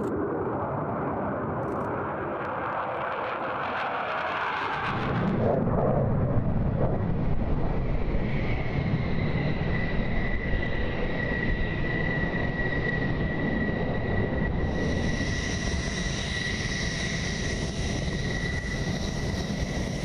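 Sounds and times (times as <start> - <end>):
high jet engine whine: 0.0 - 20.0
jet engine rumble: 0.0 - 20.0.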